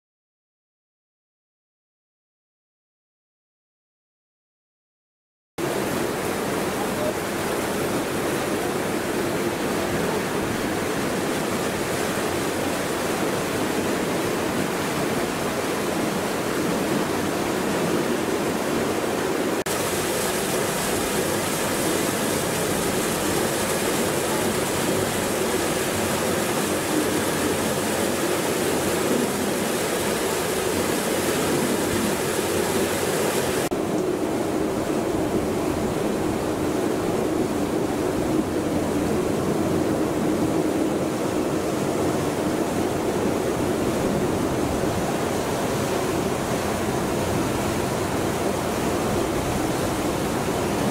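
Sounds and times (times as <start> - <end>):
rush of boat wake water: 5.6 - 50.9.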